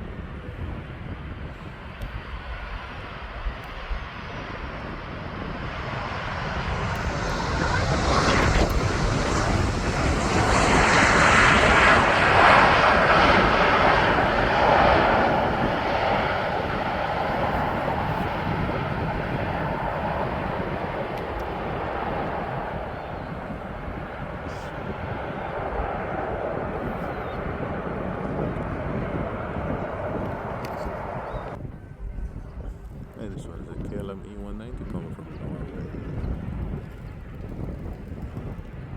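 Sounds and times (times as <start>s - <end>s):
jet engine passing by: 0.0s - 31.6s.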